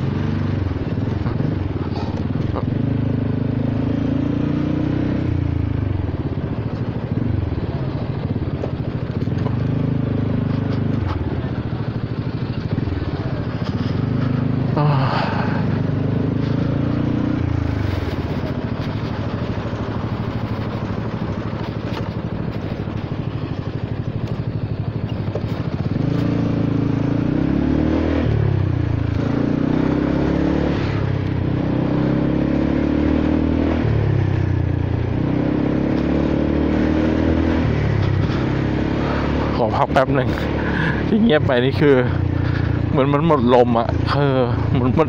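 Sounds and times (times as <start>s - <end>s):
scooter engine revving: 0.0s - 45.0s.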